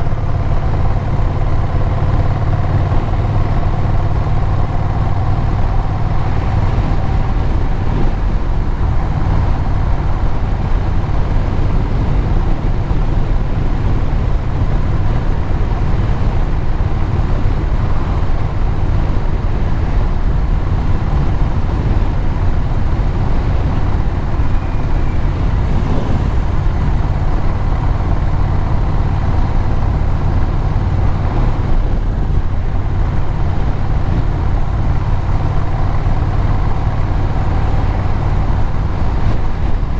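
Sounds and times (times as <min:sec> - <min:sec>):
tyre and wind noise: 0:00.0 - 0:39.9
vehicle engine drone: 0:00.0 - 0:39.9.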